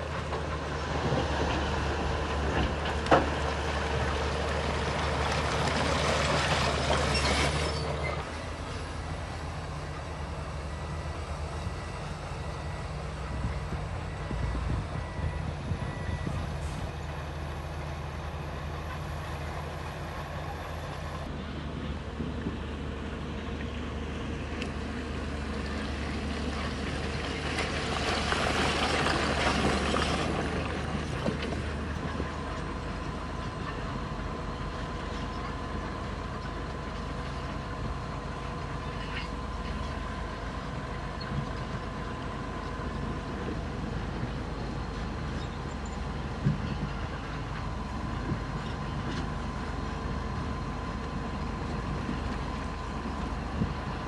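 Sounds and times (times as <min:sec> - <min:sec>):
heavy machinery diesel engines running: 0:00.0 - 0:54.0.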